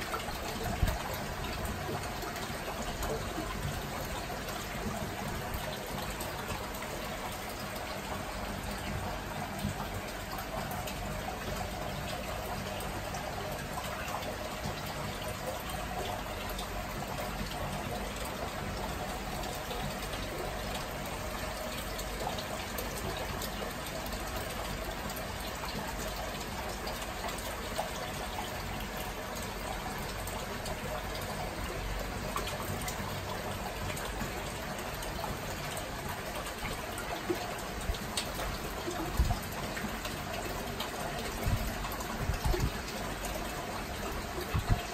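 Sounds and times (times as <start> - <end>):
aquarium water trickling and bubbling: 0.0 - 44.9.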